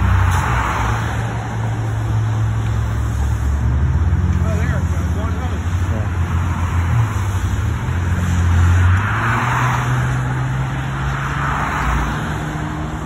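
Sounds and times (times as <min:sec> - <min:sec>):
cars passing at speed: 0:00.0 - 0:13.0.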